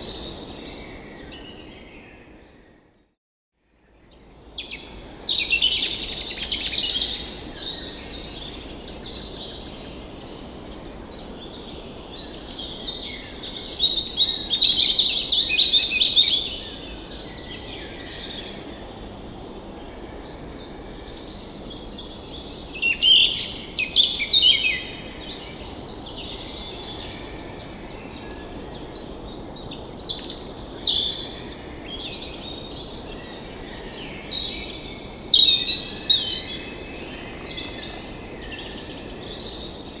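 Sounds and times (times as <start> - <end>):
songbirds chirping: 4.1 - 40.0.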